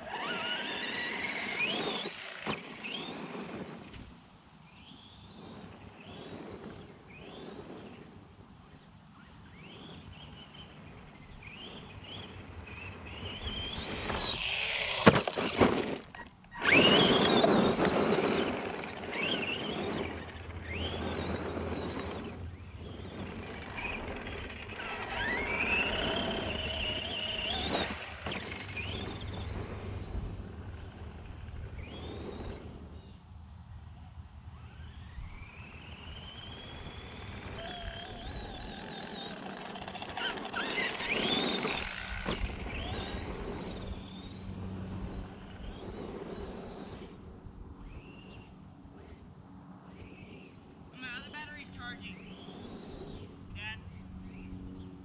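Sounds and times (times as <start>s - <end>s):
rc truck motor whining: 0.0s - 55.0s.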